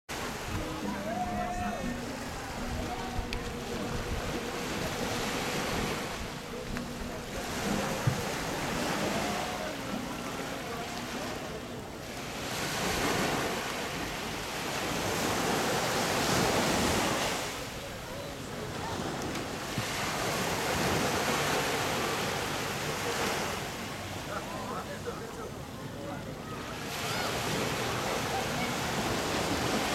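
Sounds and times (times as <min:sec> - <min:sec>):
sea waves breaking on beach: 0:00.1 - 0:29.9.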